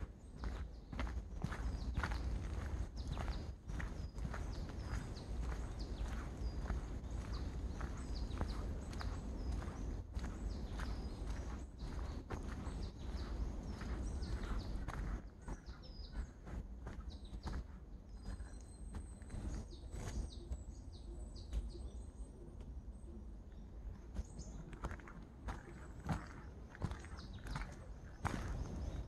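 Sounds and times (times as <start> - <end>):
birds chirping: 0.0 - 29.0
footsteps on a trail: 0.0 - 29.0.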